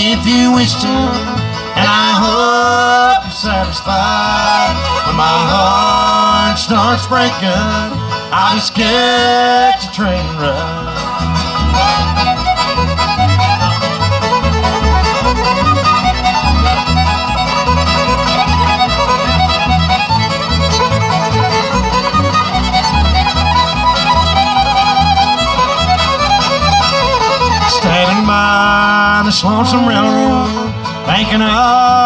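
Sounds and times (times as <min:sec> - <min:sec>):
bluegrass band playing: 0:00.0 - 0:32.0
fiddle melody: 0:00.0 - 0:32.0
steady bass notes: 0:00.0 - 0:32.0.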